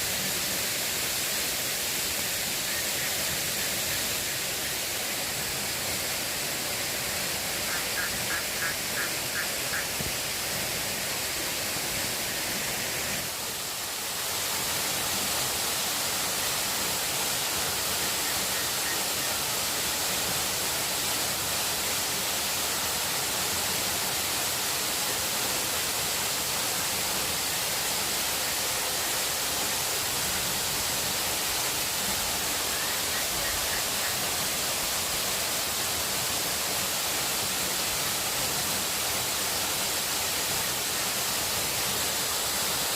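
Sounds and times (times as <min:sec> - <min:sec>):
water rushing: 0:00.0 - 0:42.9.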